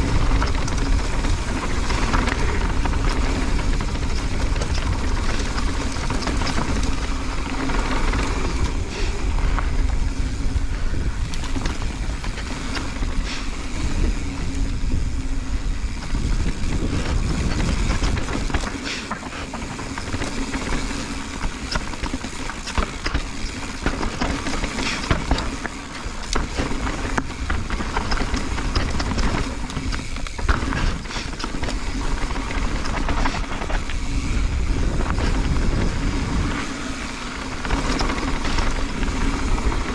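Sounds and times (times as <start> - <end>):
bike rattling over bumps: 0.0 - 39.9
tyres rolling over dirt: 0.0 - 39.9
wind buffeting microphone: 0.0 - 39.9.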